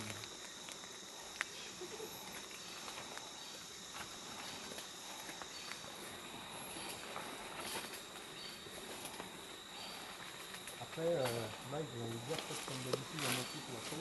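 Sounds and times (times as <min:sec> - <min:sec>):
faint rustles and clicks: 0:00.0 - 0:14.0
high-pitched insect drone: 0:00.0 - 0:14.0.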